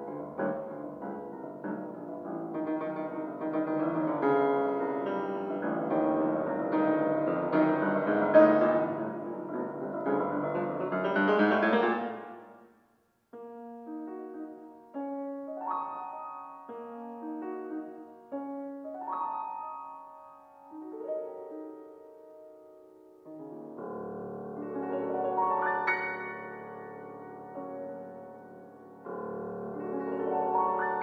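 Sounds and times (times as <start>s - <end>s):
classical piano playing: 0.0s - 31.0s.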